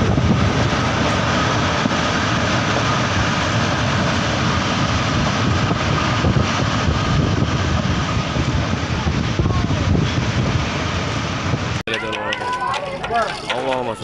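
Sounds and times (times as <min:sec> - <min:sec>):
tornado wind roaring: 0:00.0 - 0:14.0
wind buffeting microphone: 0:00.0 - 0:14.0.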